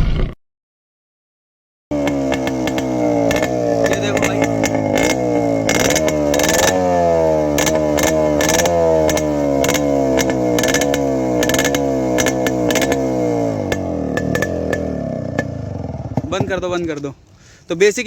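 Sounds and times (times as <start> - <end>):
two-stroke motorcycle engine revving: 1.9 - 17.1.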